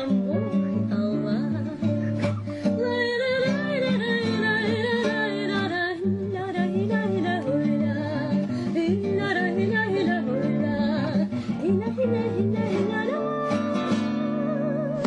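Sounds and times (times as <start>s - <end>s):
guitar accompaniment: 0.0s - 15.0s
person singing: 0.0s - 15.0s.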